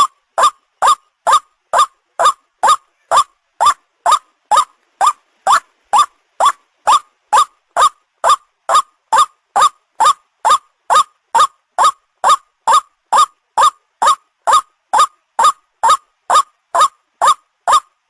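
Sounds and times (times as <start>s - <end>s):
waterhen call: 0.0s - 18.0s.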